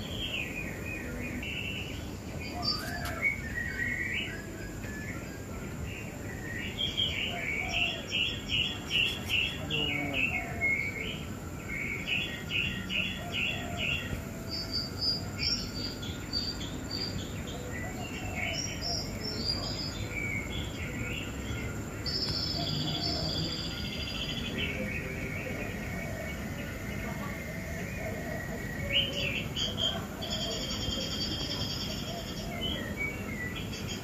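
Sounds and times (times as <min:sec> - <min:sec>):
birds chirping: 0:00.0 - 0:34.0
low background noise: 0:00.0 - 0:34.0.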